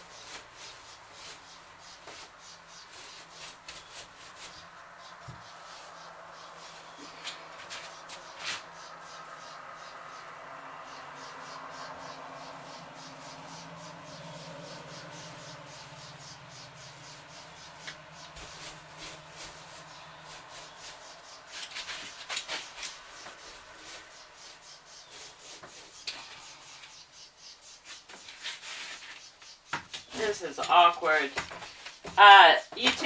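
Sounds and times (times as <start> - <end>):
scratchy paint brush strokes: 0.0 - 9.4, 11.2 - 32.3.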